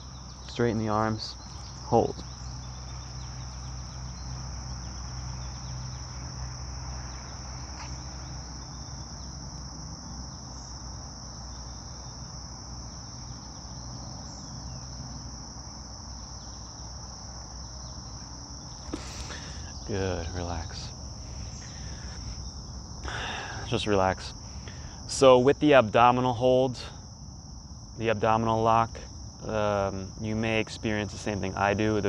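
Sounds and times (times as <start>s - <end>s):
insects droning: 0.0s - 32.0s
low steady hum: 0.0s - 32.0s.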